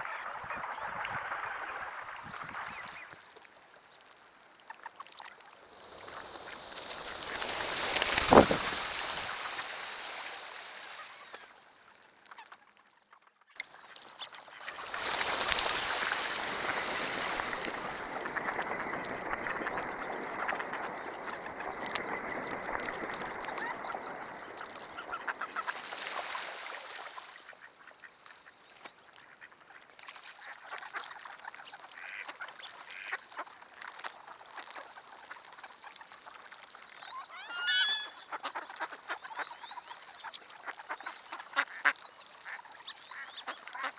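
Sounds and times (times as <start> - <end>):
flock of ducks quacking: 0.0 - 3.3, 4.6 - 9.8, 13.7 - 43.9.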